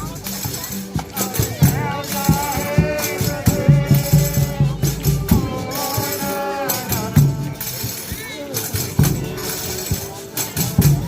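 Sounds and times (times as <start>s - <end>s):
shaken rattle: 0.0s - 11.0s
tambourine beat: 0.0s - 11.0s
voices singing held notes: 0.0s - 11.0s.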